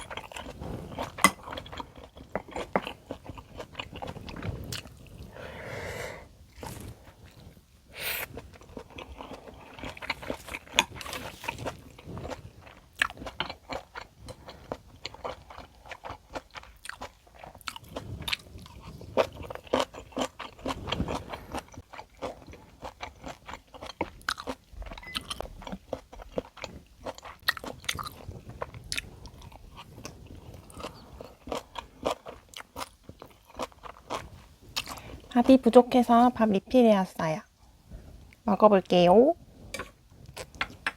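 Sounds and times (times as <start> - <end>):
person crunching and chewing food: 0.0 - 5.5, 6.5 - 35.6, 39.8 - 40.9.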